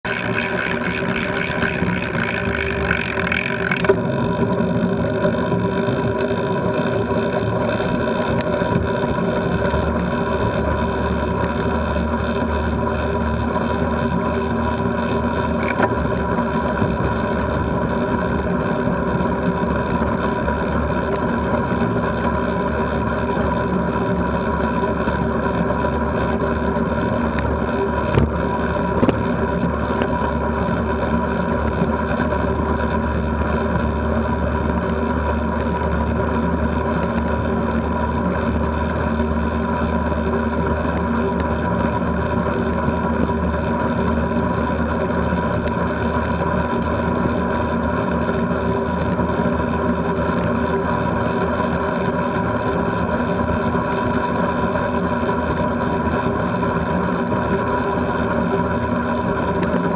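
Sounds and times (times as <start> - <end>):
wind and road drone: 0.0 - 59.9.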